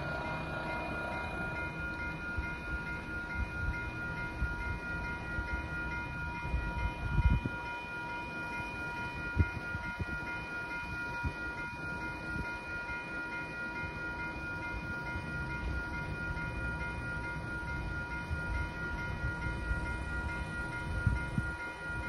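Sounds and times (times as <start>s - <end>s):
crossing warning bell ringing: 0.0s - 22.0s.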